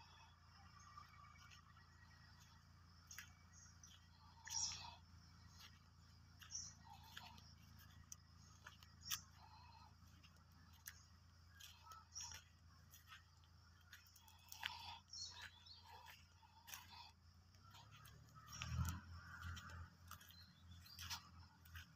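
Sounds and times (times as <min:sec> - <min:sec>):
distant bird chirps: 0:00.0 - 0:21.9.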